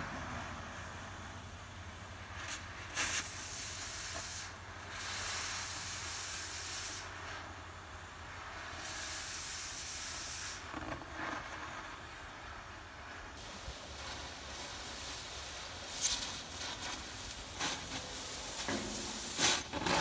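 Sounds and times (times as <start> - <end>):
cutting torch hissing: 2.0 - 20.0.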